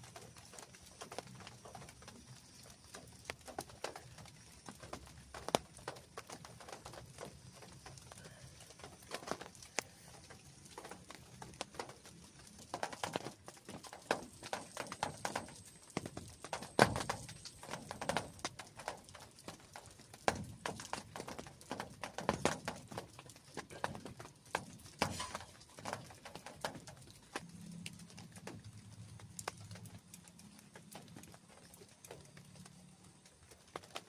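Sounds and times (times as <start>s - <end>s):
drips tapping on fabric: 0.0s - 34.0s.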